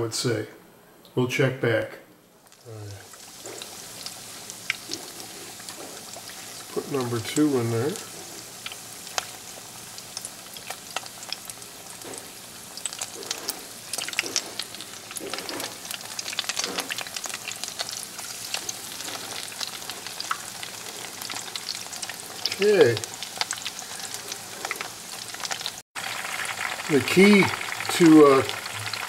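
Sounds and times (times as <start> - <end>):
fish deep-frying in oil: 2.5 - 29.0.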